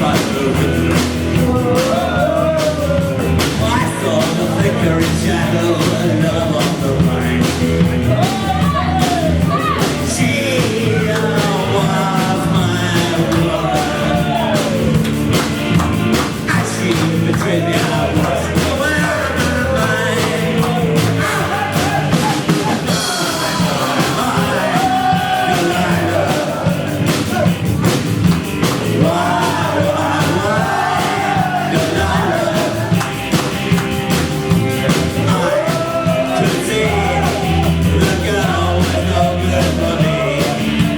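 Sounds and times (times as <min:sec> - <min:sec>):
person singing: 0:00.0 - 0:15.0, 0:16.2 - 0:27.6, 0:28.8 - 0:33.5, 0:34.5 - 0:40.9
bass line: 0:00.0 - 0:40.9
drums: 0:00.0 - 0:40.9.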